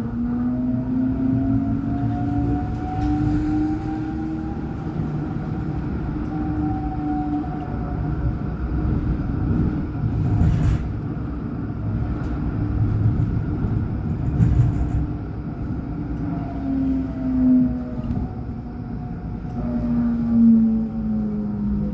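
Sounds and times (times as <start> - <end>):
tram wheels rumbling on rail: 0.0 - 21.9.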